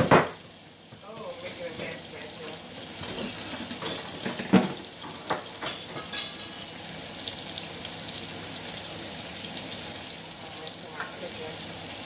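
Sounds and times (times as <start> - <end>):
onions sizzling in a skillet: 0.0 - 12.0.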